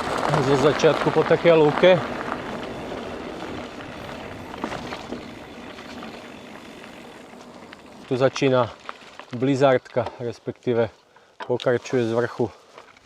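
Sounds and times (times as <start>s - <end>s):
bike tyre noise: 0.0s - 13.0s.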